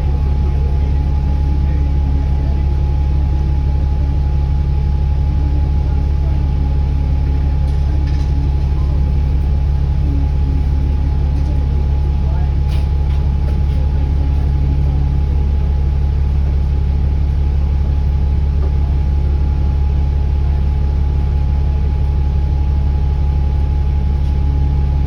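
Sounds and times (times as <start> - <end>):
bus diesel engine droning: 0.0 - 25.0
thin steady whine: 0.0 - 25.0.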